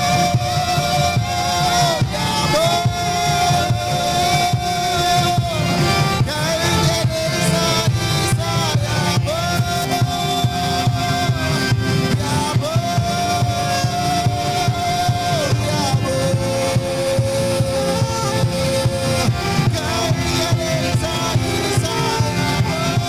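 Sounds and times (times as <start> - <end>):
drum beat: 0.0 - 23.0
electronic keyboard: 0.0 - 23.0
man singing into a microphone: 0.0 - 23.0.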